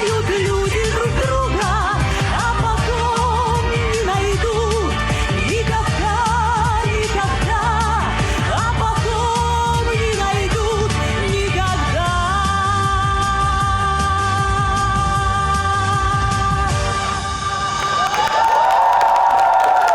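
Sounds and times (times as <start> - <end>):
pop accompaniment with steady beat: 0.0 - 17.9
woman singing: 0.0 - 18.0.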